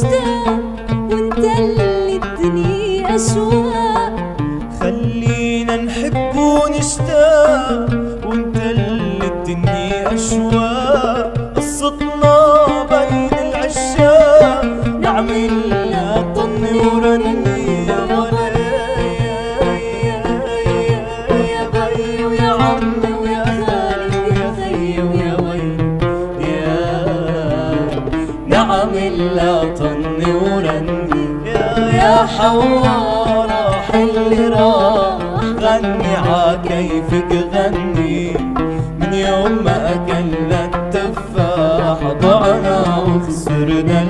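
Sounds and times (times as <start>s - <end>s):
hand drum rhythm: 0.0s - 44.0s
oud plucked melody: 0.0s - 44.0s.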